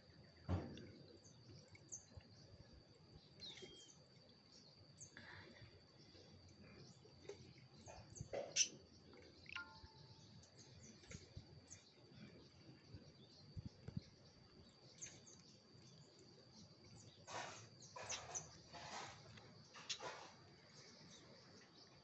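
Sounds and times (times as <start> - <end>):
birds chirping: 0.5 - 22.0.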